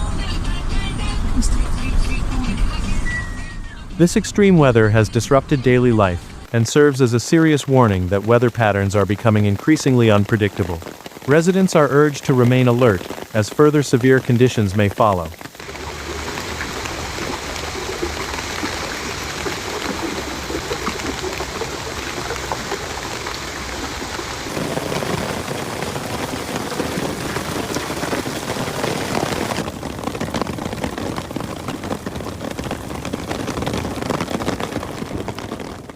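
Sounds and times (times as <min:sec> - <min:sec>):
heavy rain pattering: 0:04.1 - 0:35.9.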